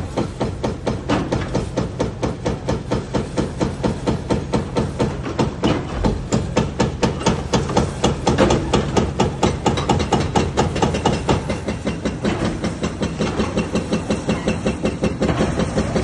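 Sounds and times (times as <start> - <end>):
hydraulic breaker hammering: 0.0 - 16.0.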